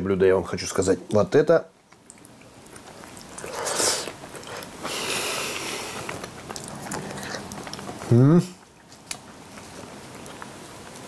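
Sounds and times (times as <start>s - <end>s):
person chewing food: 1.8s - 11.0s.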